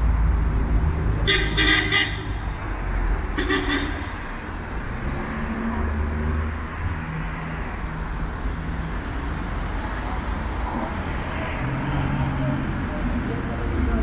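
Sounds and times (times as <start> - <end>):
passing vehicles: 0.0 - 14.0.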